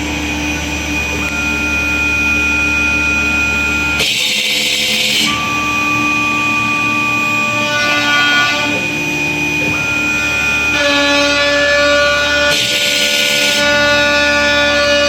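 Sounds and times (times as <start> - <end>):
sustained synthesizer chords: 0.0 - 15.0.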